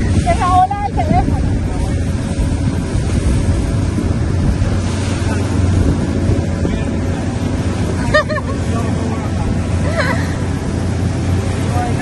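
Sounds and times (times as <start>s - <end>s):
boat motor rumbling: 0.0s - 12.0s
wind buffeting microphone: 0.0s - 12.0s.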